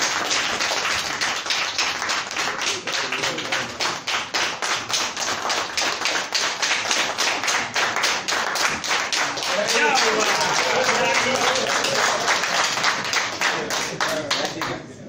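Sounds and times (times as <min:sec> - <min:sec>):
people applauding: 0:00.0 - 0:14.9.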